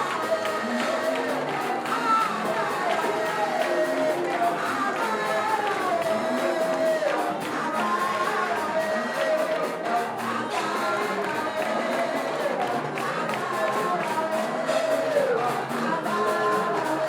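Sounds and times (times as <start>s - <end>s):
congregation singing: 0.0s - 17.0s
instrumental accompaniment: 0.0s - 17.0s
steady percussion beat: 0.0s - 17.0s
worship singing: 0.0s - 17.0s.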